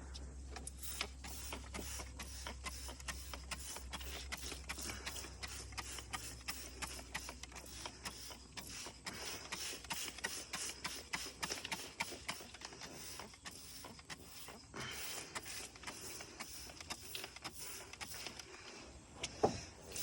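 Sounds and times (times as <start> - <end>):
spray bottle spritzes: 0.6 - 18.4.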